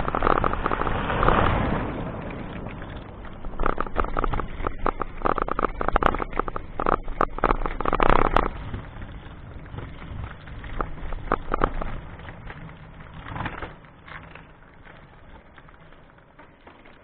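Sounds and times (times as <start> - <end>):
low rumble: 0.0 - 15.2
vehicle rattling on rough road: 0.0 - 17.0.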